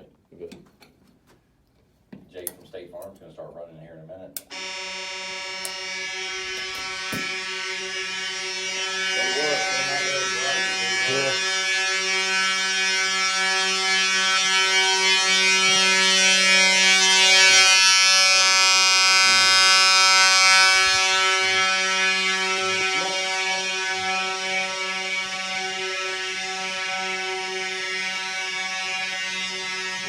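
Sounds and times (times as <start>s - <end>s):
fire alarm horn buzzing: 4.4s - 30.0s.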